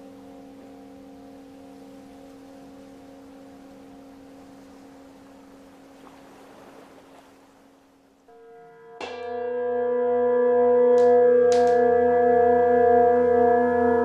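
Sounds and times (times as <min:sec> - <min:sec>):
singing bowls ringing: 0:00.0 - 0:05.9, 0:08.3 - 0:14.0.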